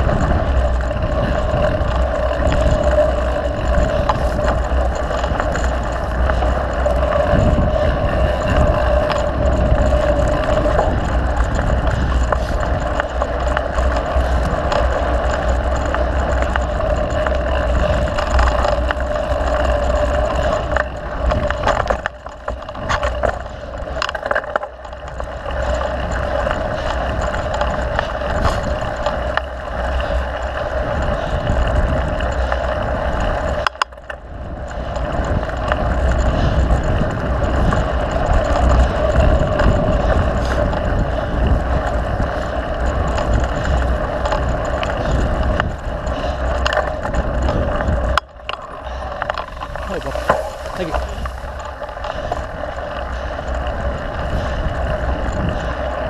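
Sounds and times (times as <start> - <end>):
bike tyres on dirt trail: 0.0 - 56.0
wind rumble on microphone: 0.0 - 56.0.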